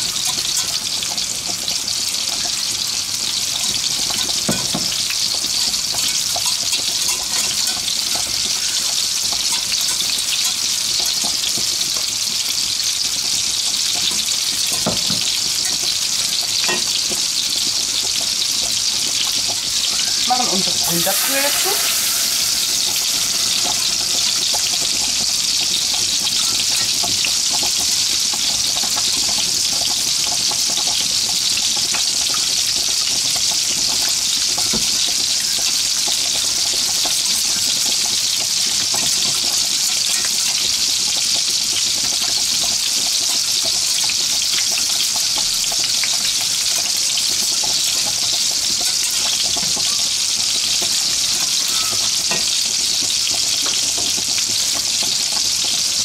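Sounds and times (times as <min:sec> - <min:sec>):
meatballs sizzling in oil: 0:00.0 - 0:56.0.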